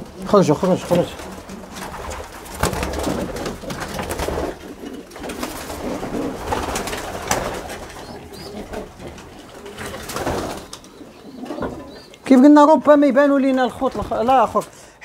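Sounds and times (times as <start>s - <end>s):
pigeons cooing: 0.0s - 12.6s.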